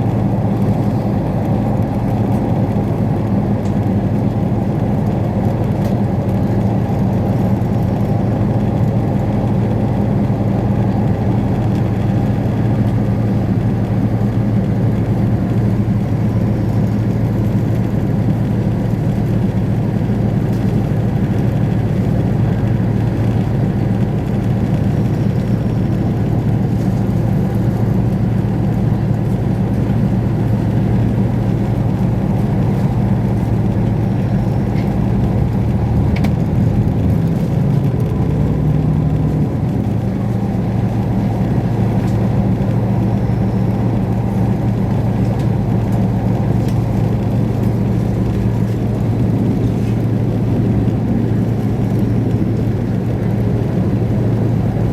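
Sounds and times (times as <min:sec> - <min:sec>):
moving train running noise: 0:00.0 - 0:54.9.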